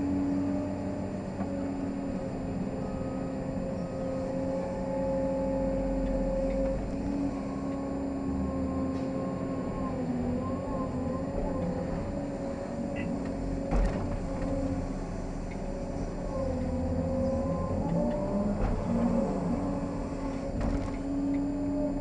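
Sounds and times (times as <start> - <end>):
excavator diesel engine under load: 0.0 - 22.0.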